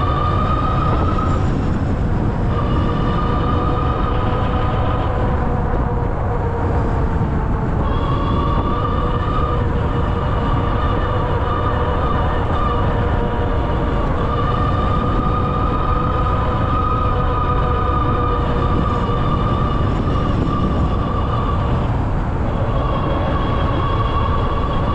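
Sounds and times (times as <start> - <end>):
electric hub motor whining: 0.0 - 24.9
low rumble of riding: 0.0 - 24.9.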